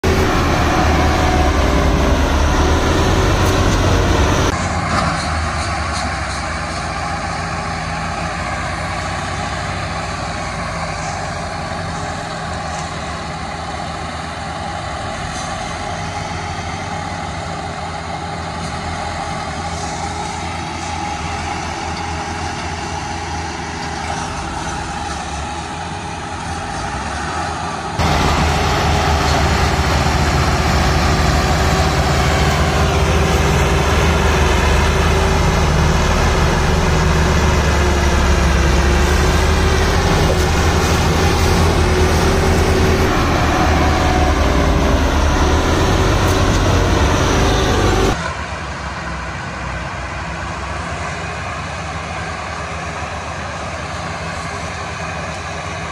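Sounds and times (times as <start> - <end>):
tractor diesel engines under load: 0.0 - 55.9.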